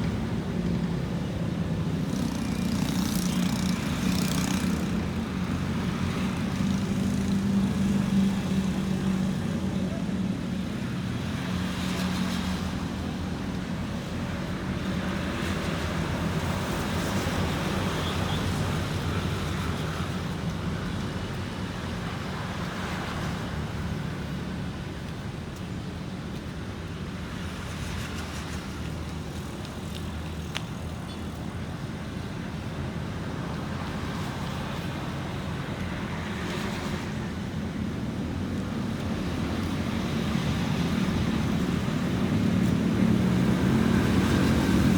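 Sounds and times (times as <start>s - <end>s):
vehicles passing: 0.0s - 44.9s.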